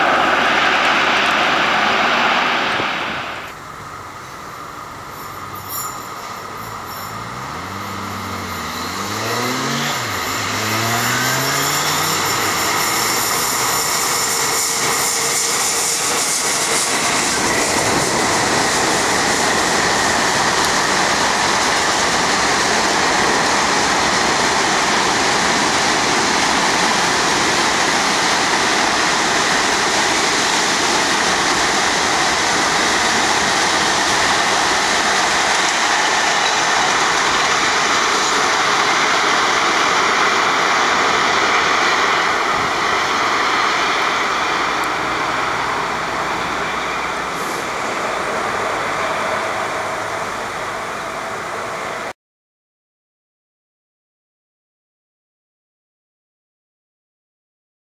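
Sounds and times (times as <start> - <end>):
freight train wheels rumbling: 0.0 - 52.1
locomotive gliding tones: 0.0 - 52.1.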